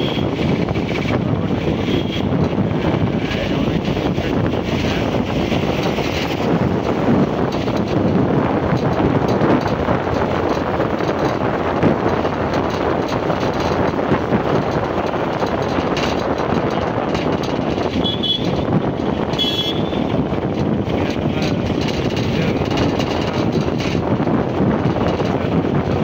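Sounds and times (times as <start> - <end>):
road and wind noise in vehicle: 0.0 - 26.0.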